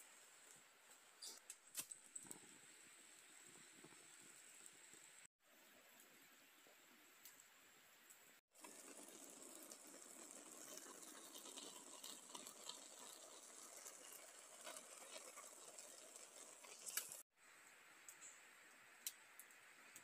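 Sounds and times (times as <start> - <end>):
rice cooking on camp stove: 0.0 - 20.0.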